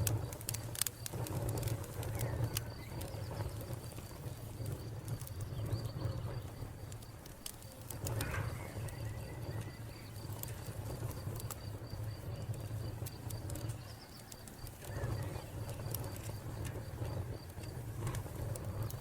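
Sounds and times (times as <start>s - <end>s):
cricket chirping: 0.0s - 19.0s
wood fire crackling: 0.0s - 19.0s.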